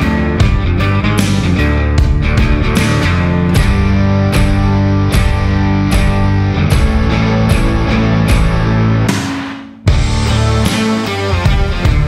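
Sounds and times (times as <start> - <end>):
rock music with guitar: 0.0 - 12.0
steady drum beat: 0.0 - 12.0.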